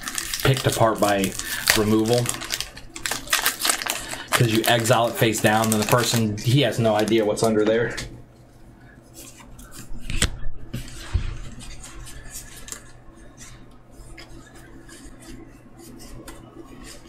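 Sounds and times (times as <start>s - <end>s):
cards clicking and rustling: 0.0s - 6.3s, 9.2s - 17.0s.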